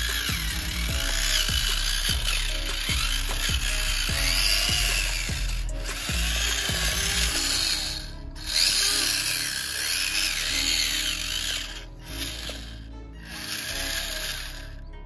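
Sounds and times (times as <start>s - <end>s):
small electric motor whining: 0.0s - 14.8s
background music: 0.0s - 15.0s.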